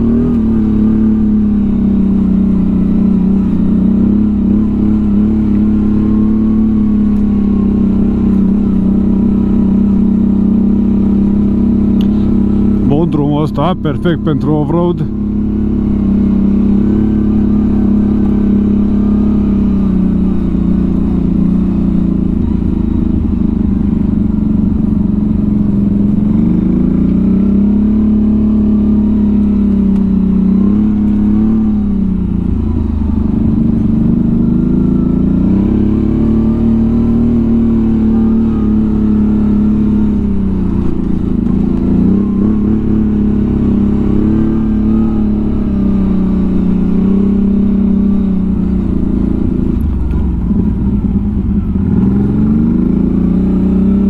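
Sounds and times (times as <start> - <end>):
atv engine revving while riding: 0.0 - 54.0.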